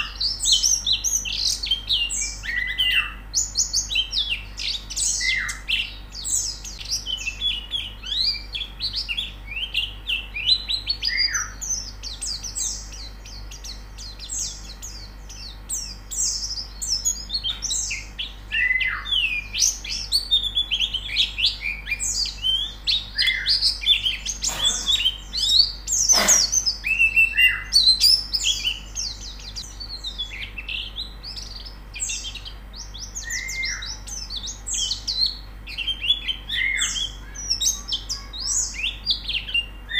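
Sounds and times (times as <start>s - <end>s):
sharp bird calls: 0.0s - 39.9s
small birds twittering: 0.0s - 39.9s.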